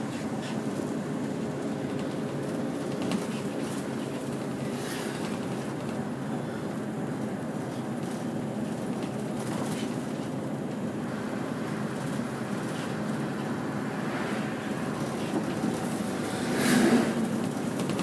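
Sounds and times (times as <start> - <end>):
bus engine running: 0.0 - 18.0
road and tyre noise: 0.0 - 18.0.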